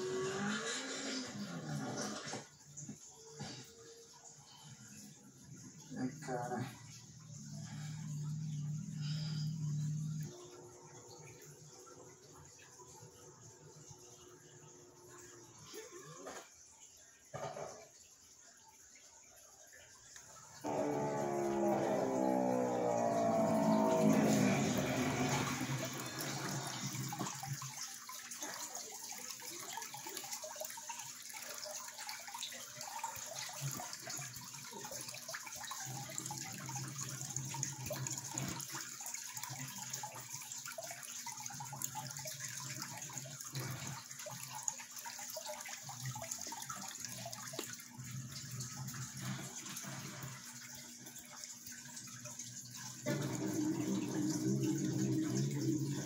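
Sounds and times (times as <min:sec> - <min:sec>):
running water trickling: 0:00.0 - 0:56.0.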